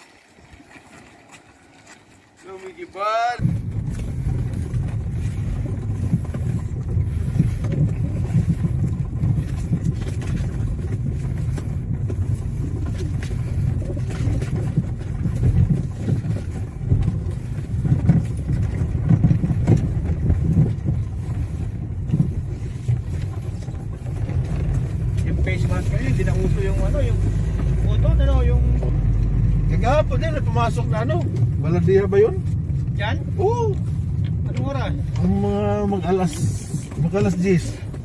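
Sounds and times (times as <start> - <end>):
car engine and tyres rumbling: 0.0 - 38.0.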